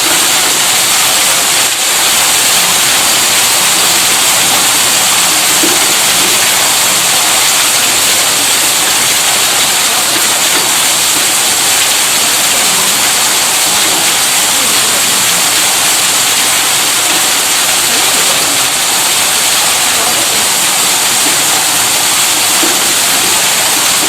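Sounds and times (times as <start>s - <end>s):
pump water rushing: 0.0s - 24.0s.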